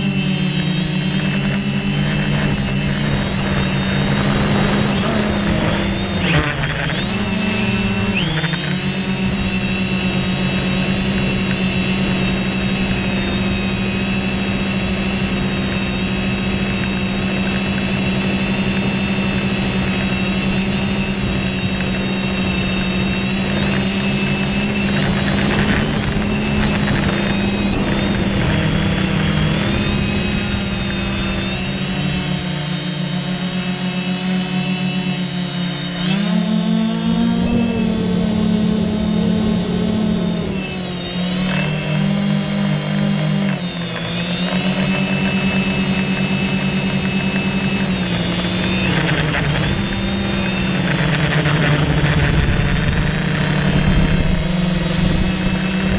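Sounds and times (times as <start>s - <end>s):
drone motors and propellers whining: 0.0s - 55.9s.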